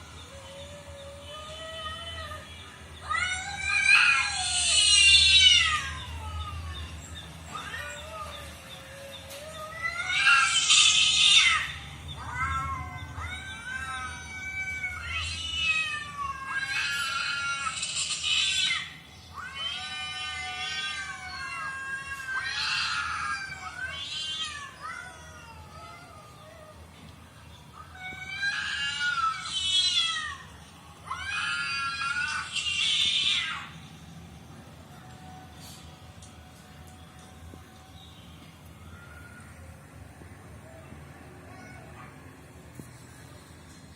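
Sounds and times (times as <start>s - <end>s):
cats meowing and yowling: 0.0s - 34.0s, 38.7s - 40.0s, 40.6s - 43.2s.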